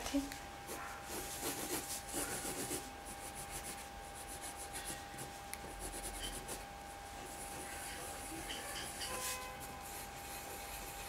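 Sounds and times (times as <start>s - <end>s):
pencil scratching on paper: 0.7s - 11.0s.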